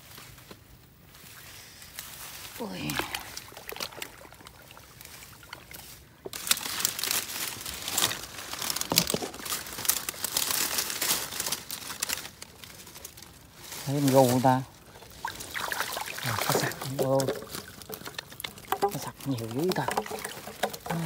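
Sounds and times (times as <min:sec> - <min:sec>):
dry grass rustling and crackling: 0:00.0 - 0:21.0.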